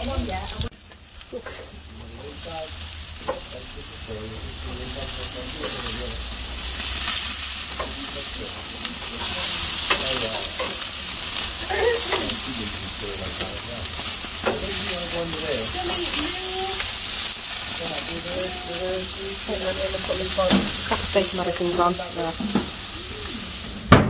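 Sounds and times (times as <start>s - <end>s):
steaks sizzling on a grill: 0.0s - 24.0s.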